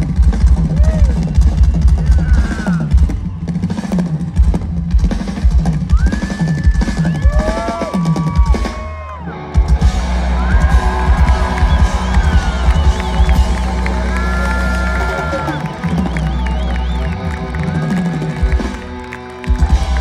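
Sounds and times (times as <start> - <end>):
rock band playing: 0.0 - 20.0
rock drum kit played hard: 0.0 - 20.0.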